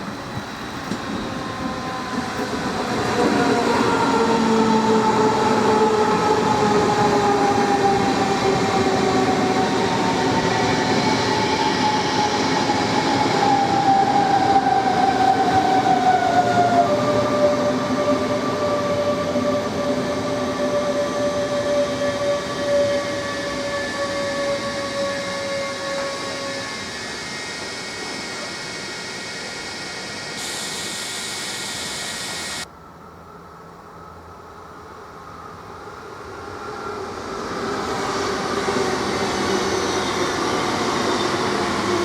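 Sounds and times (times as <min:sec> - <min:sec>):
train rolling noise: 0:00.0 - 0:32.7, 0:35.1 - 0:42.0.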